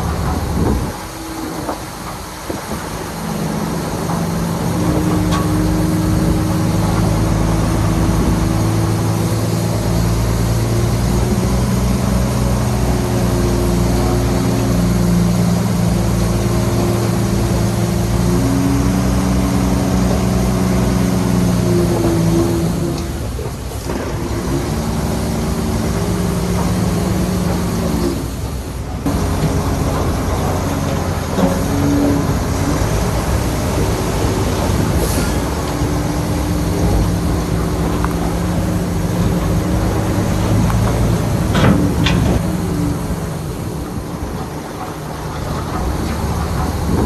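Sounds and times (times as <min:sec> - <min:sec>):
bulldozer diesel engine working: 0:00.0 - 0:47.0.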